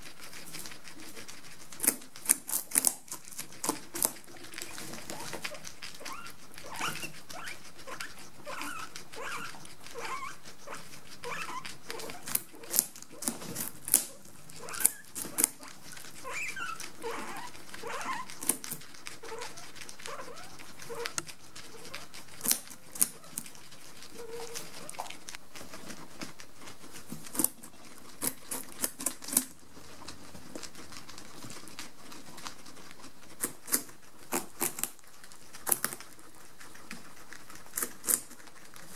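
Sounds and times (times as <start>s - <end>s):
guinea pigs crunching pumpkin: 0.0s - 38.9s
guinea pigs squeaking: 0.0s - 38.9s.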